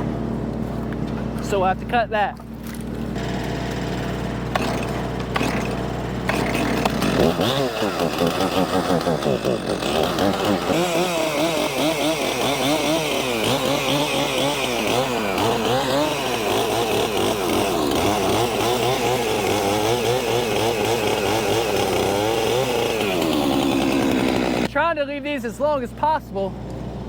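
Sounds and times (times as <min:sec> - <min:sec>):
chainsaw cutting branches: 0:02.6 - 0:24.7.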